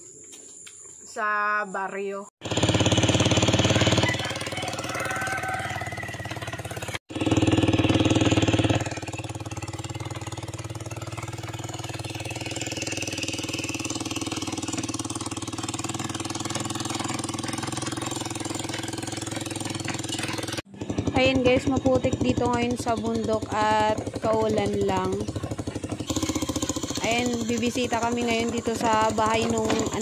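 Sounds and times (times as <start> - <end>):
small engine running: 2.4 - 30.0.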